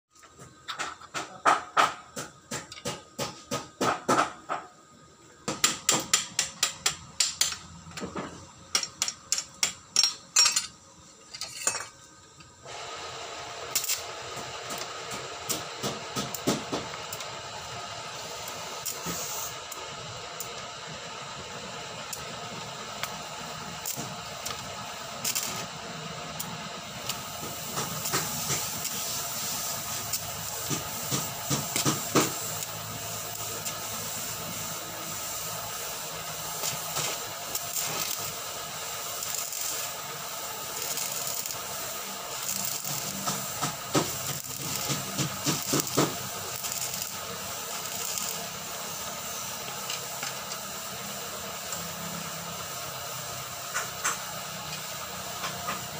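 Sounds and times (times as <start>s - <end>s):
welding arc crackling and hissing: 0.1s - 55.9s.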